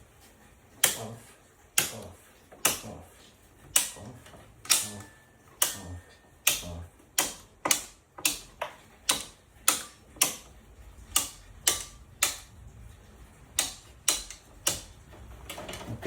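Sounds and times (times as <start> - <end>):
circuit breakers clicking off: 0.8 - 16.0.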